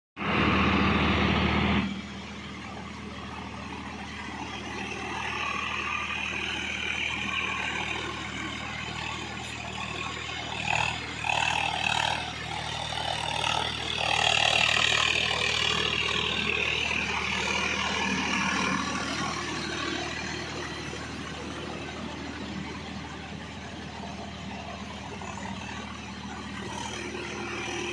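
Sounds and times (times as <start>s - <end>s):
tractor diesel engine humming: 0.2s - 27.9s.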